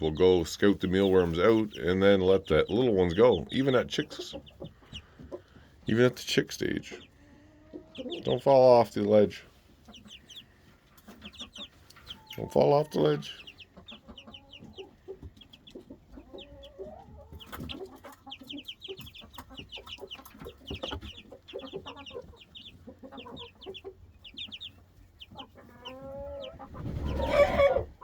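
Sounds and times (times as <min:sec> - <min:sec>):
chicks peeping: 0:00.0 - 0:28.0
low clucking calls: 0:00.0 - 0:28.0.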